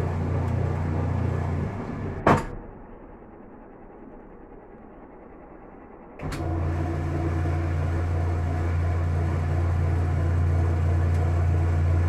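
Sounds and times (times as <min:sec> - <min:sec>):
washing machine motor humming: 0:00.0 - 0:12.0.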